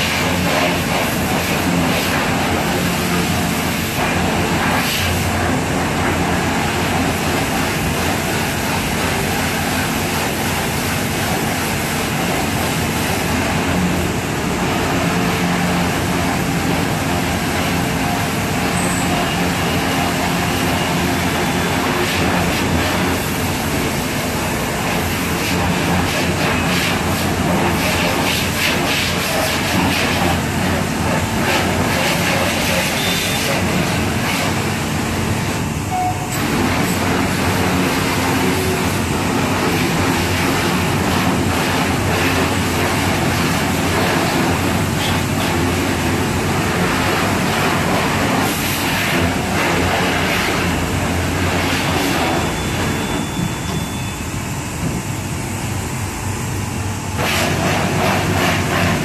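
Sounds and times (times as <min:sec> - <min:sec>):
pressure washer spray hissing: 0:00.0 - 0:35.6, 0:36.2 - 0:52.6.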